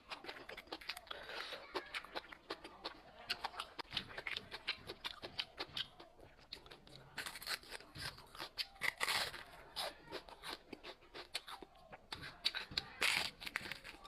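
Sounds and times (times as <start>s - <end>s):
crunching and smacking of chewing: 0.0s - 14.0s.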